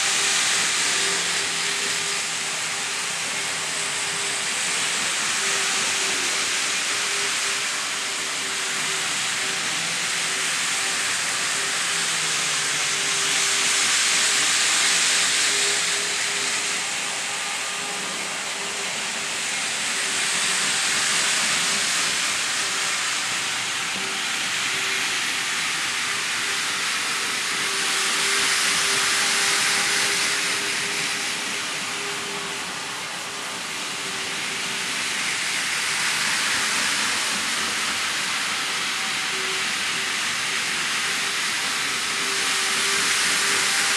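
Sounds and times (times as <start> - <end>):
model train running on track: 0.0 - 43.9.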